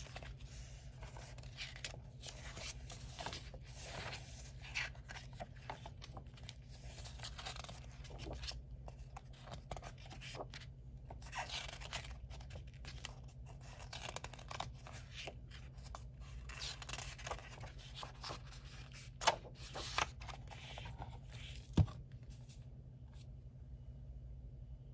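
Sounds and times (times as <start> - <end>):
book pages turning: 0.0 - 23.3.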